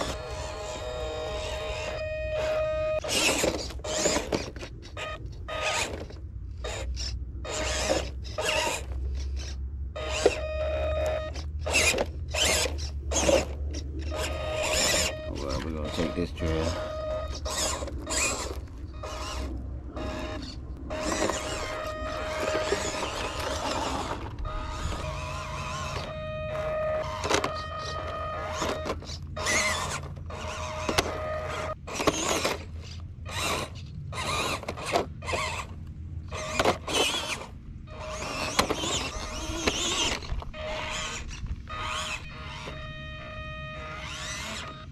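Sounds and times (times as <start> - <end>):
small electric motor whining: 0.0 - 44.9.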